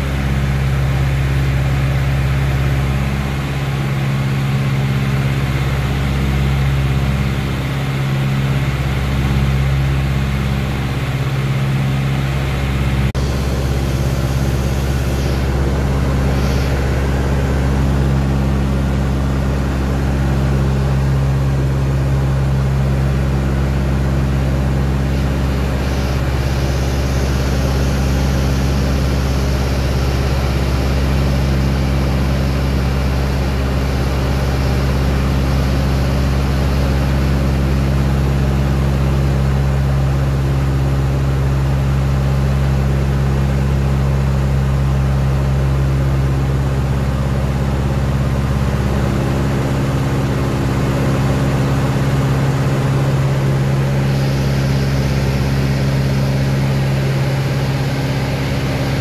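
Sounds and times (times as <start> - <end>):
airplane piston engines droning: 0.0 - 59.0.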